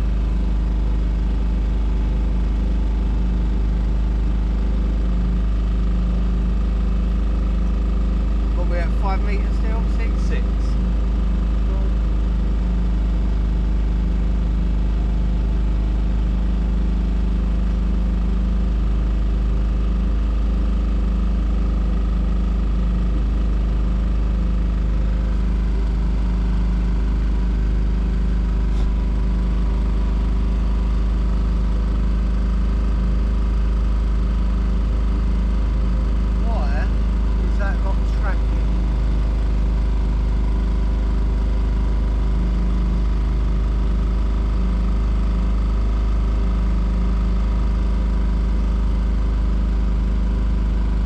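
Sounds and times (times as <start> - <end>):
boat motor running: 0.0 - 51.0.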